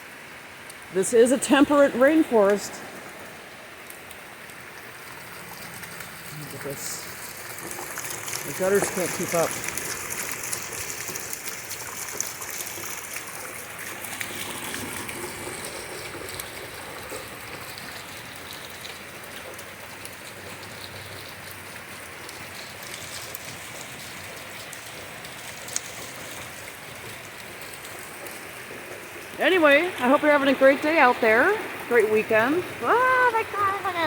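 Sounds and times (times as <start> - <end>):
heavy rain splashing: 0.0 - 34.0
water streaming from gutters: 0.0 - 34.0.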